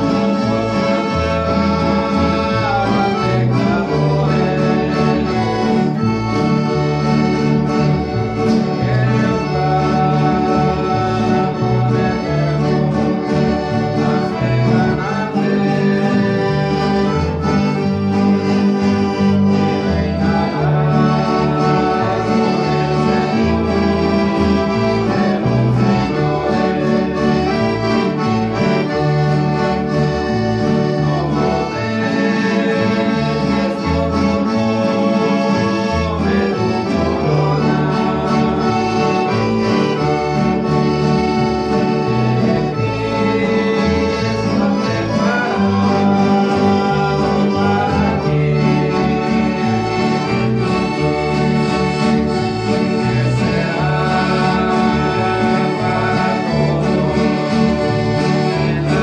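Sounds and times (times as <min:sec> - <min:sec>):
acoustic guitars: 0:00.0 - 0:59.0
piano accordion: 0:00.0 - 0:59.0.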